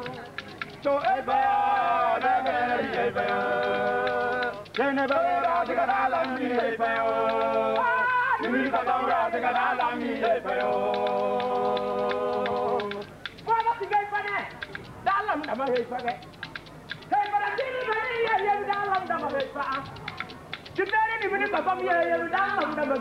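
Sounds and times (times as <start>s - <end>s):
men singing held notes: 0.0s - 14.7s, 15.8s - 23.0s
gourd rattles shaken: 0.0s - 23.0s.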